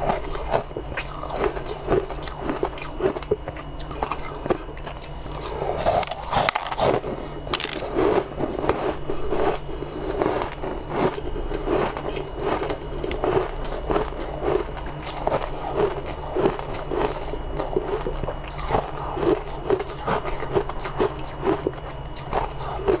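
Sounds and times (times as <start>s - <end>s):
crunchy chewing: 0.0s - 23.0s
steady low hum: 0.0s - 23.0s.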